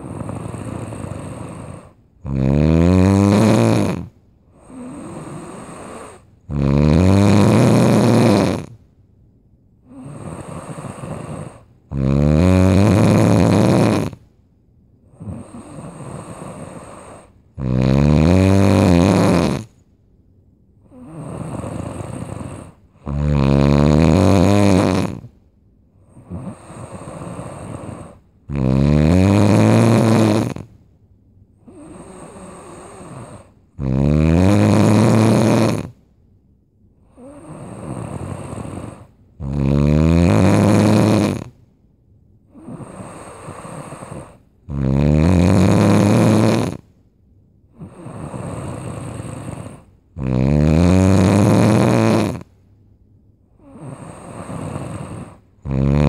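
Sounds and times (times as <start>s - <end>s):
loud buzzing snores: 0.0s - 8.8s, 9.8s - 14.2s, 15.1s - 19.8s, 20.8s - 25.4s, 26.0s - 30.8s, 31.6s - 36.0s, 37.0s - 41.6s, 42.5s - 46.9s, 47.7s - 52.5s, 53.6s - 56.0s
quiet breathing: 0.0s - 9.0s, 9.7s - 20.0s, 20.7s - 36.2s, 36.9s - 41.8s, 42.4s - 52.8s, 53.4s - 56.0s.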